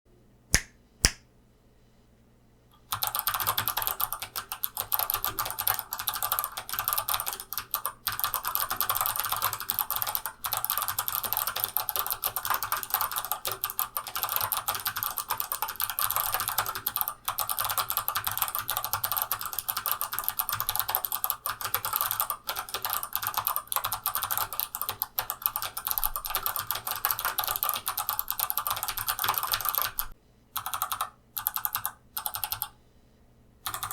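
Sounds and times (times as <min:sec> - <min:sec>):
typing on clicky mechanical keyboard: 0:02.9 - 0:32.7, 0:33.7 - 0:33.9.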